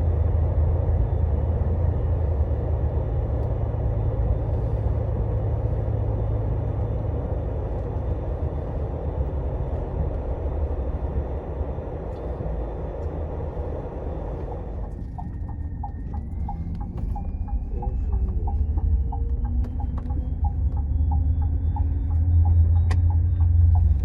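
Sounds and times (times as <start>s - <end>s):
diesel engine rumble: 0.0s - 24.0s
road noise: 0.0s - 24.0s.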